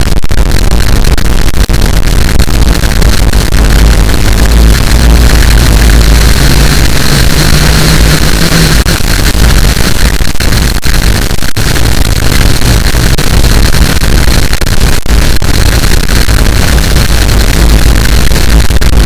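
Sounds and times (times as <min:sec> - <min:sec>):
harsh distorted noise: 0:00.0 - 0:19.0.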